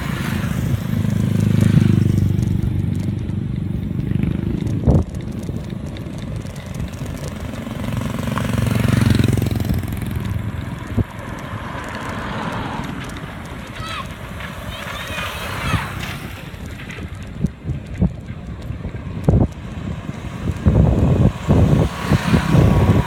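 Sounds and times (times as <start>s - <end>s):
motorcycles passing: 0.0s - 23.0s.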